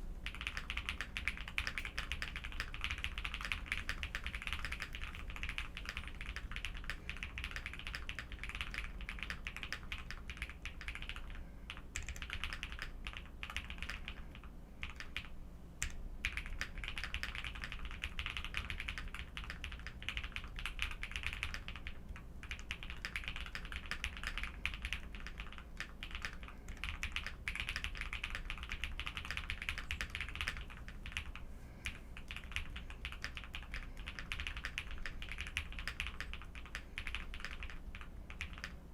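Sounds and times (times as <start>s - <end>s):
fast typing on mechanical keyboard: 0.2s - 38.9s.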